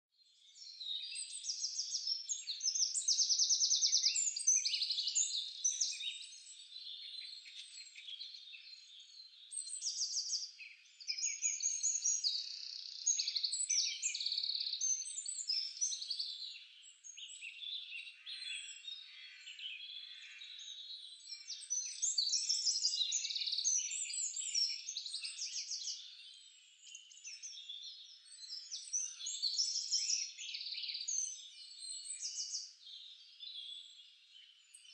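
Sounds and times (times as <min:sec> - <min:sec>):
songbirds chirping and trilling: 0:00.2 - 0:34.9.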